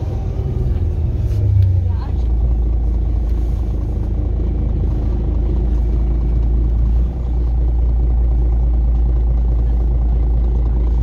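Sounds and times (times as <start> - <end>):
low rumble of vehicle in motion: 0.0 - 11.0.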